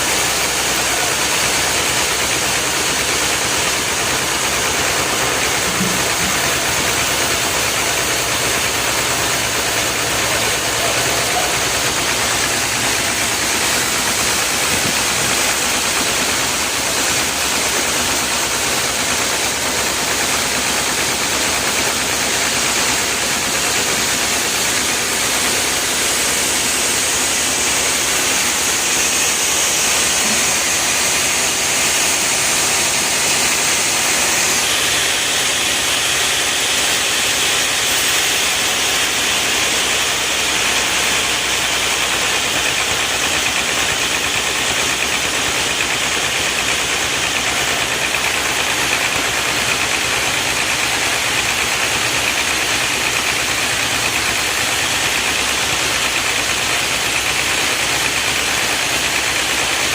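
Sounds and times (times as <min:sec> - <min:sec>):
engine-driven machinery running: 0:00.0 - 0:59.9.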